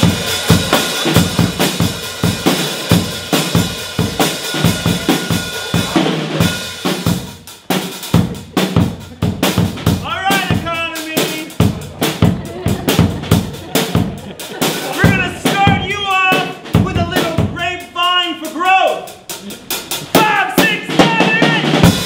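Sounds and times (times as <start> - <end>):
drum kit fast beat: 0.0 - 22.0.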